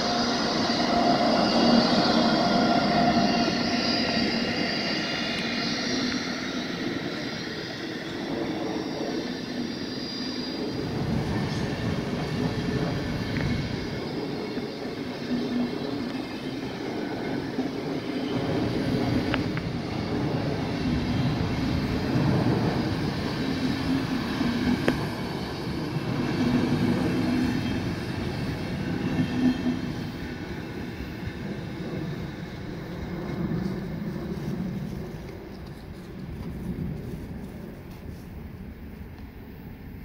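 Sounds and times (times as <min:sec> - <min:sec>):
train wheels rushing on rails: 0:00.0 - 0:40.0.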